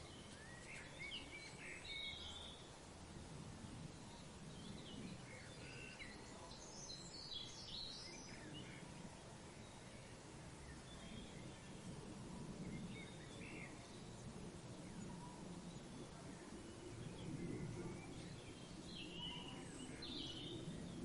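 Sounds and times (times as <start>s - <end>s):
birds chirping: 0.0s - 2.8s, 3.6s - 21.0s
soft background hiss: 0.0s - 21.0s.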